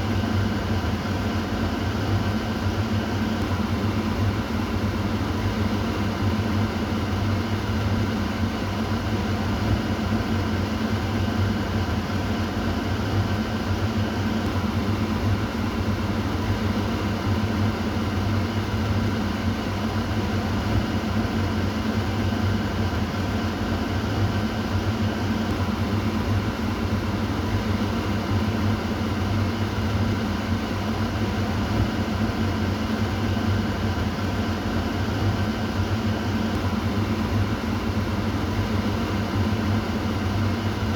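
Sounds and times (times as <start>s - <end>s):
exhaust fan running: 0.0s - 40.9s.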